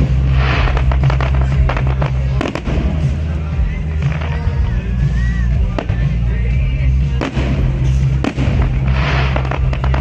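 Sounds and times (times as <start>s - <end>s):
fireworks bangs: 0.0s - 10.0s
loud music with heavy bass: 0.0s - 10.0s.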